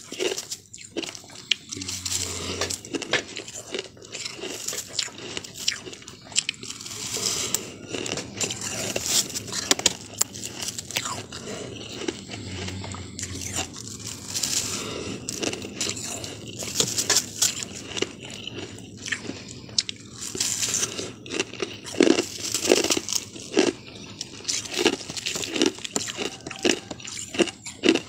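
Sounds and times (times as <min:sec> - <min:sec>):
ice being chewed crunchily: 0:00.0 - 0:28.0.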